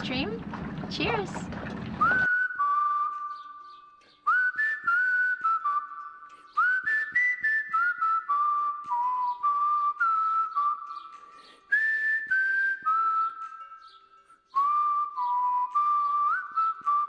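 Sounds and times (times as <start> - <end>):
whistled melody: 2.0 - 17.0.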